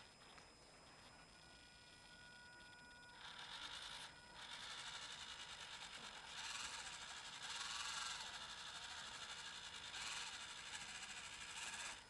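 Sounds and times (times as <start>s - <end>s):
small electric motor and gears whirring: 0.0s - 12.0s.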